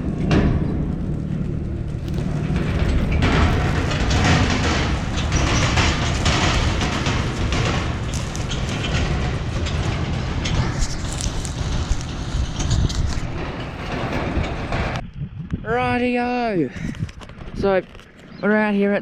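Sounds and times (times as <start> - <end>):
rattling and clattering: 0.0 - 16.1
vehicle driving over rough ground: 0.0 - 16.2, 16.8 - 19.0.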